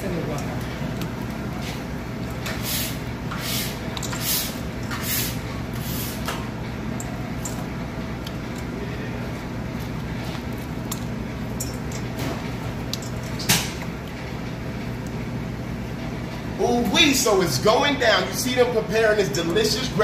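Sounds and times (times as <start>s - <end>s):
kitchen equipment hum: 0.0s - 20.0s.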